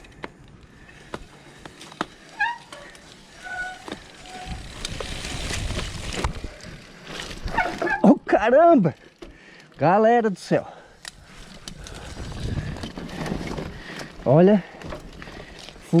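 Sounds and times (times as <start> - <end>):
bike clicks and rattles: 0.0 - 9.8, 10.9 - 16.0.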